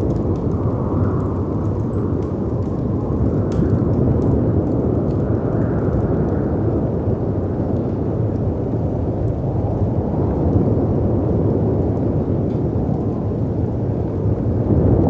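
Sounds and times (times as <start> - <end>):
faint fireplace crackles: 0.0 - 15.0
storm wind: 0.0 - 15.0.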